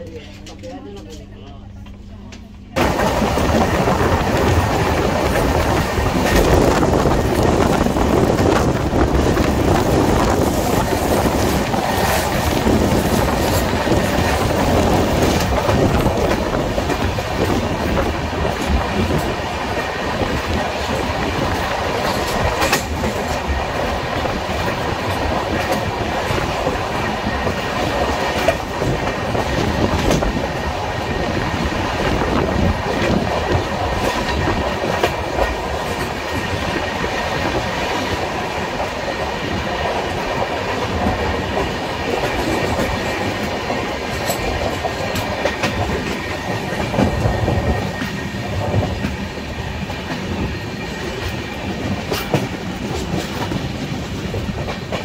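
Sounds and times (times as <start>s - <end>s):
train wheels rumbling on rails: 0.0s - 55.0s
wheels clickety-clack over track: 2.8s - 55.0s.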